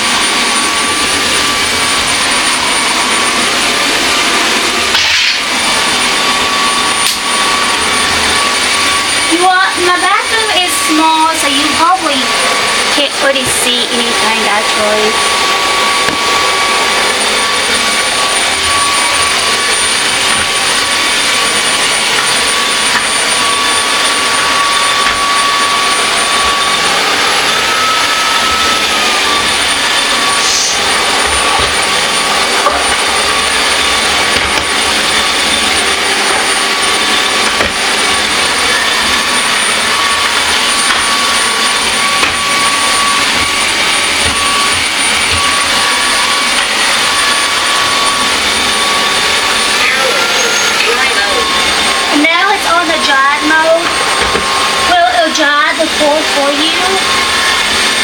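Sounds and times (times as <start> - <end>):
vacuum mop motor whine: 0.0 - 58.0.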